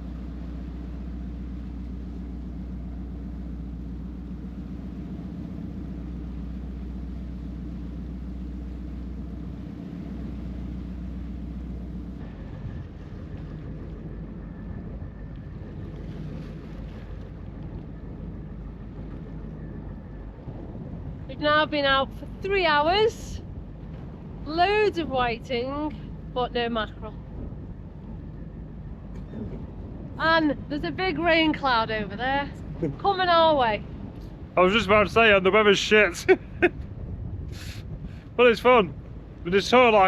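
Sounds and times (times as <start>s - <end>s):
motorboat engine running: 0.0s - 40.0s
sea noise: 0.0s - 40.0s
wind: 0.0s - 40.0s.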